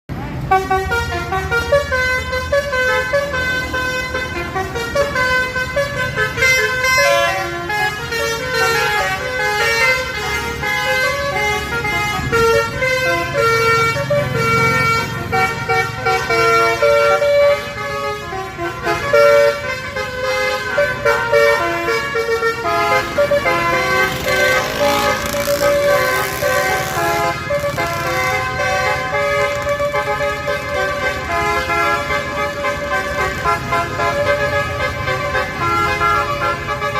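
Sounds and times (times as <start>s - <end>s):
bus engines rumbling: 0.1s - 36.9s
musical air horns playing tunes: 0.3s - 36.9s.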